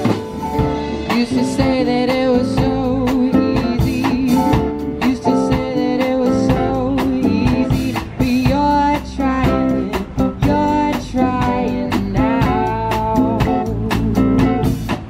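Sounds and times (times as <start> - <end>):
drum kit beat: 0.0 - 15.0
electric and acoustic guitars: 0.0 - 15.0
keyboard: 0.0 - 15.0
lead vocal singing: 1.0 - 14.4.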